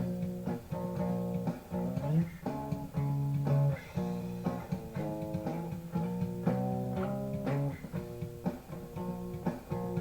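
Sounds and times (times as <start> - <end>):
plucked and strummed guitar: 0.0 - 10.0.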